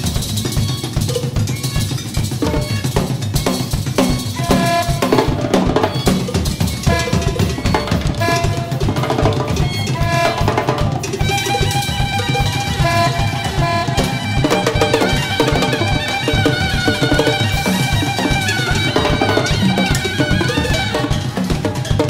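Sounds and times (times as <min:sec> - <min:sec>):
drum kit: 0:00.0 - 0:22.0
hand percussion: 0:00.0 - 0:22.0
saxophone line: 0:00.0 - 0:22.0.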